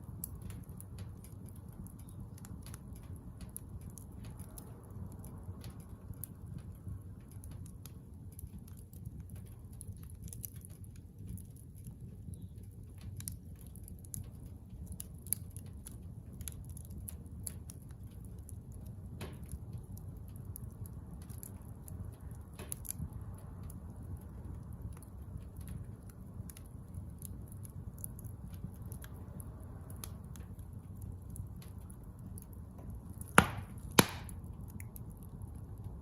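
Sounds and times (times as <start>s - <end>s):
bonfire crackling: 0.0s - 36.0s
low steady rumble: 0.0s - 36.0s.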